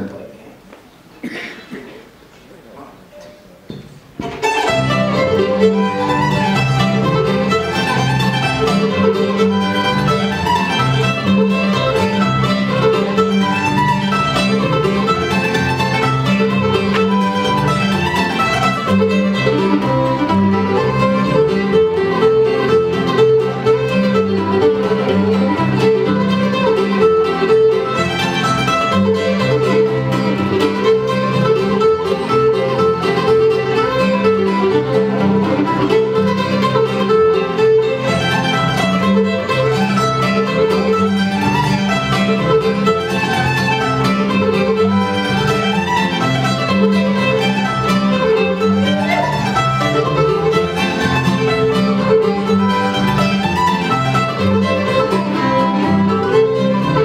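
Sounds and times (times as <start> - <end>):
string band playing fiddle tune: 3.7 - 57.0.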